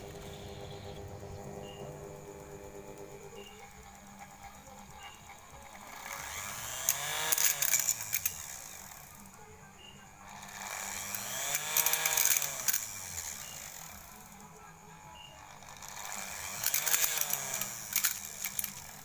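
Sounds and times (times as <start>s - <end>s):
crackling clicks: 0.0s - 9.2s, 10.0s - 14.7s, 15.8s - 19.0s
motor whine: 0.0s - 19.0s.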